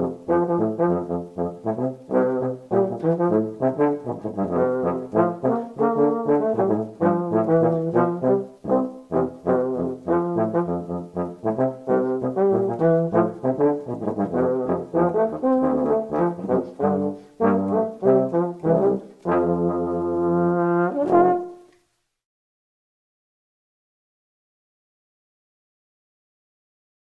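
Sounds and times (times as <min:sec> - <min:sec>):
low brass duet: 0:00.0 - 0:21.9.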